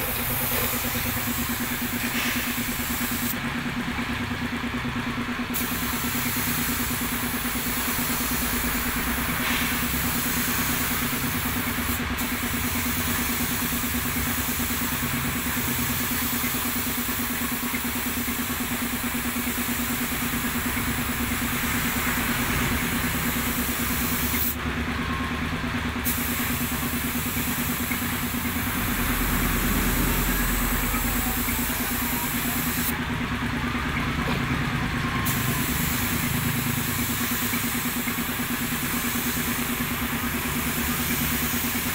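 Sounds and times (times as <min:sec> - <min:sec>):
paint spray gun hissing: 0:00.0 - 0:03.4, 0:05.5 - 0:24.6, 0:26.0 - 0:33.0, 0:35.2 - 0:41.9
air compressor humming: 0:00.0 - 0:24.7, 0:25.7 - 0:41.9.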